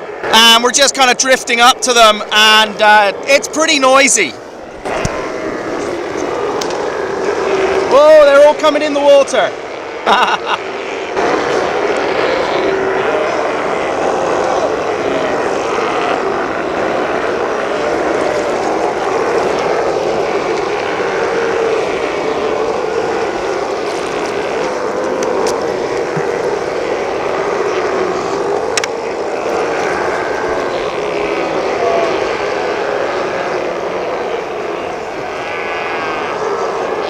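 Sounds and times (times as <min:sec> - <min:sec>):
sea lions barking: 0:00.0 - 0:37.0.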